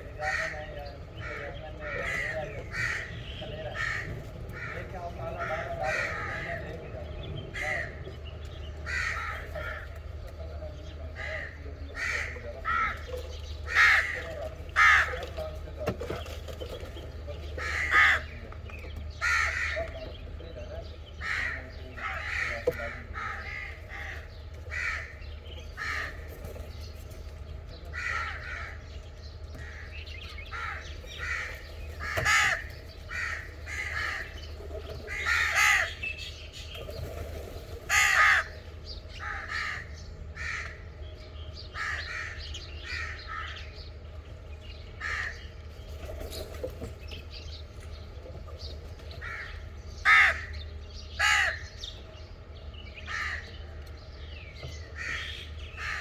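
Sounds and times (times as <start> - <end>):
crows cawing: 0.0 - 15.7, 17.4 - 26.6, 27.8 - 36.5, 37.1 - 43.9, 44.9 - 45.7, 49.1 - 52.0, 53.0 - 54.0, 54.7 - 56.0.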